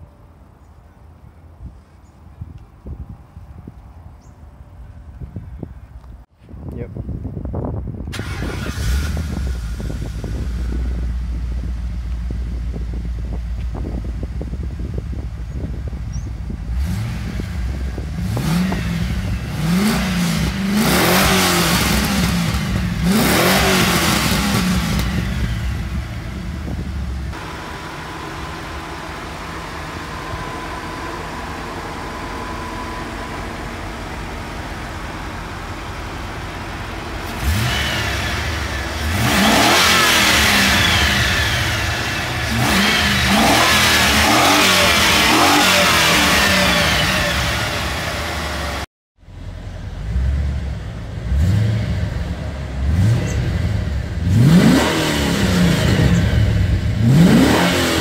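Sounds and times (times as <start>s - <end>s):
car engine revving and idling: 8.1s - 58.0s.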